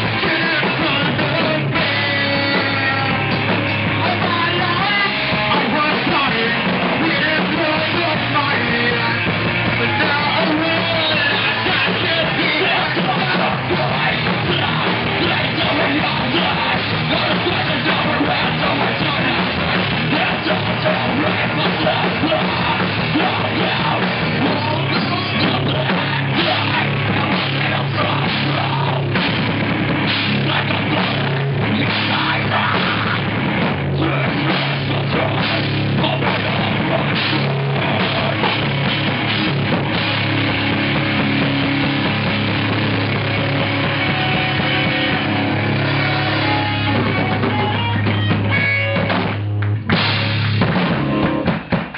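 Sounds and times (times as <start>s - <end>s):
heavy rock band playing: 0.0s - 51.9s.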